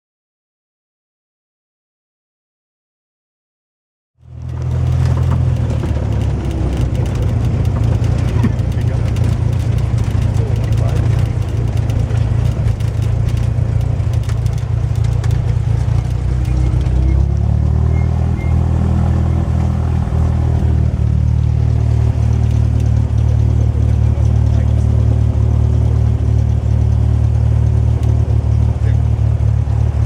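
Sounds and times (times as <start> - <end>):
piston aircraft engine droning: 4.3 - 30.0.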